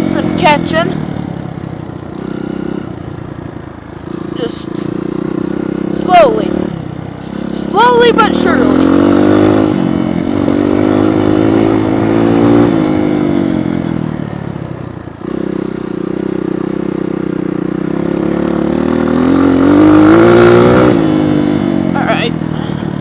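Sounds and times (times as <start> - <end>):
dirt bike engine revving: 0.0 - 14.4, 15.1 - 23.0.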